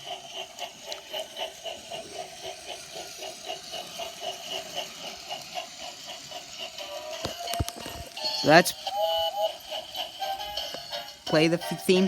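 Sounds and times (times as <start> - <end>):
toy train rhythmic clatter: 0.0 - 12.0.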